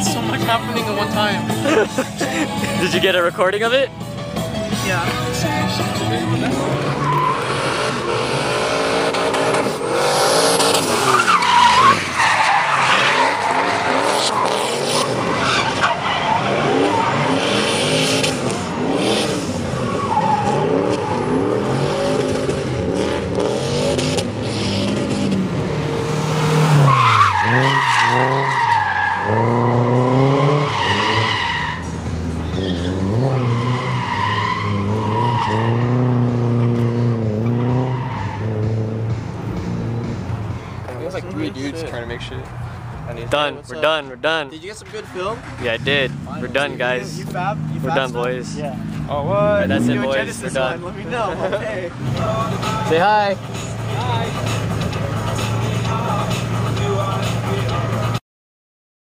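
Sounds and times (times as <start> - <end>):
car engines revving hard: 0.0 - 43.8, 44.7 - 58.2
tire squealing: 0.0 - 58.2.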